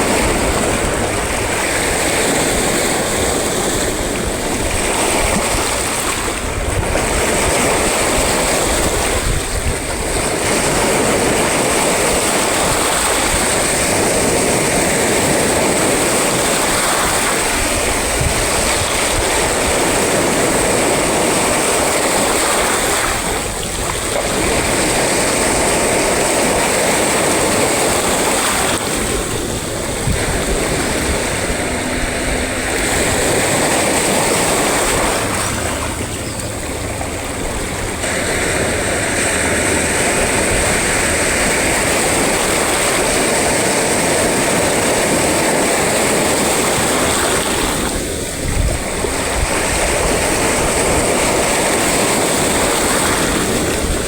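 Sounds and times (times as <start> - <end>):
sea waves and surf: 0.0 - 54.0.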